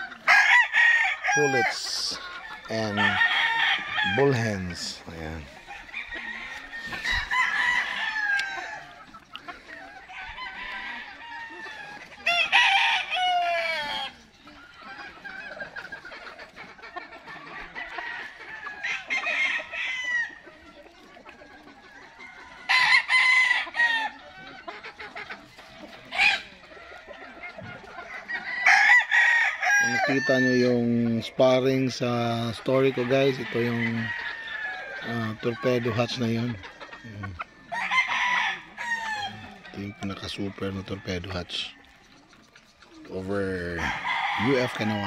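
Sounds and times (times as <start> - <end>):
hens clucking softly: 0.0 - 45.0
roosters crowing: 0.0 - 45.0.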